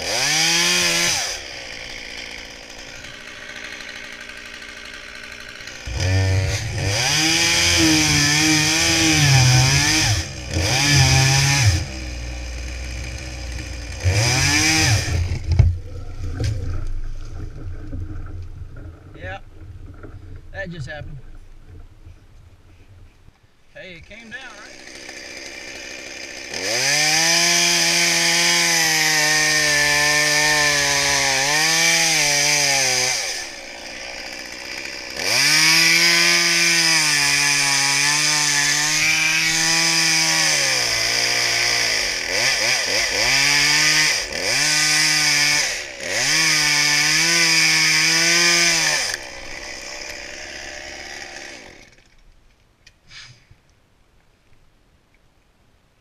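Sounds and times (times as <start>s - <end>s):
chainsaw cutting wood: 0.0s - 19.1s, 24.0s - 52.3s.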